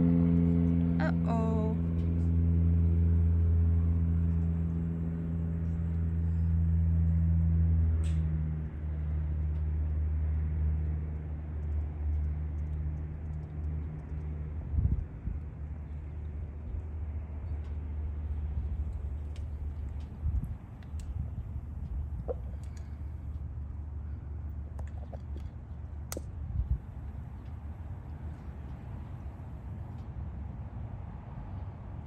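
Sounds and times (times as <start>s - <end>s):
aircraft engine drone: 0.0s - 32.0s.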